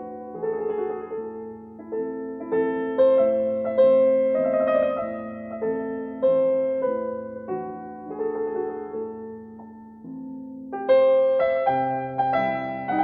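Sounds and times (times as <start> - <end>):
slow gentle piano melody: 0.0 - 13.0.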